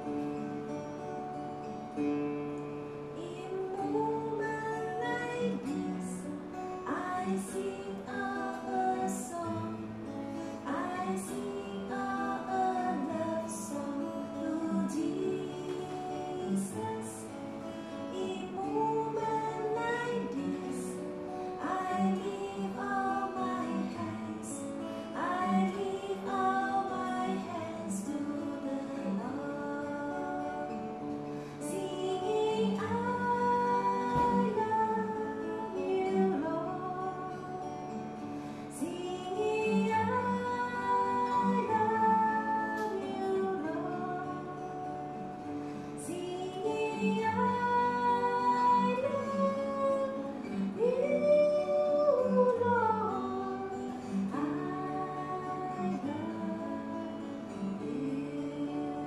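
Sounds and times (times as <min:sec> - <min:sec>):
acoustic guitar: 0:00.0 - 0:59.0
woman singing slow melody: 0:03.0 - 0:59.0.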